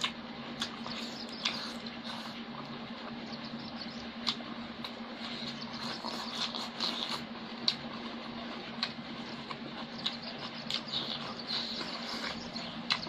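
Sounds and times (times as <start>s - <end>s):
chewing and mouth smacking: 0.0s - 3.2s, 4.2s - 13.0s
low steady hum: 0.0s - 13.0s.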